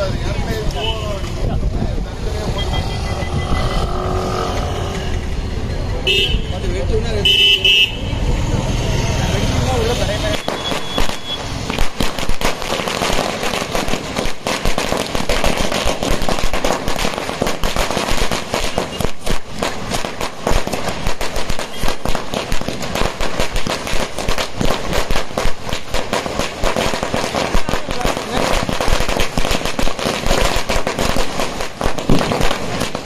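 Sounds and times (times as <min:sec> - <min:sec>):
firecrackers banging: 0:00.0 - 0:33.0.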